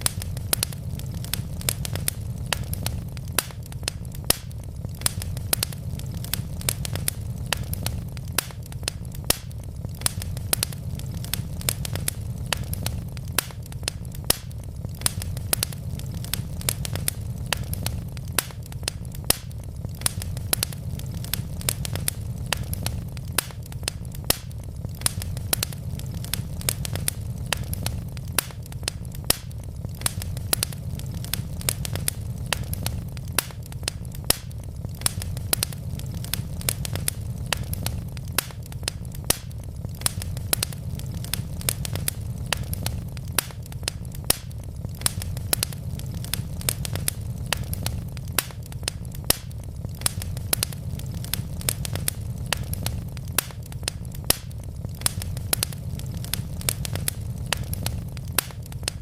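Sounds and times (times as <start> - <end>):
wood logs crackling in fireplace: 0.0 - 59.0.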